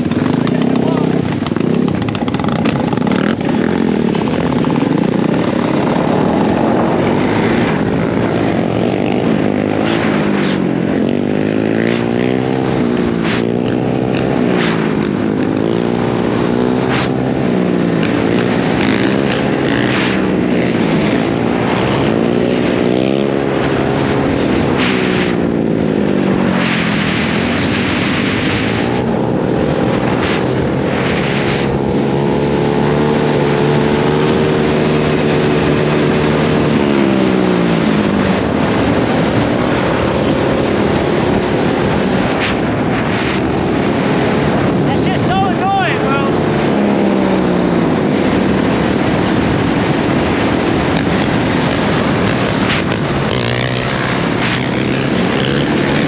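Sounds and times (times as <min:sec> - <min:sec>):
dirt bike engine revving: 0:00.0 - 0:56.0
rushing noise: 0:00.0 - 0:56.0.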